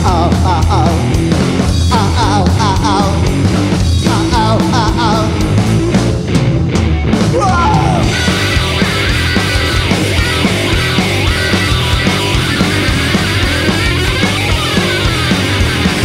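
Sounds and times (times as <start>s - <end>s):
electric guitar bent notes: 0.0s - 16.0s
rock band playing: 0.0s - 16.0s.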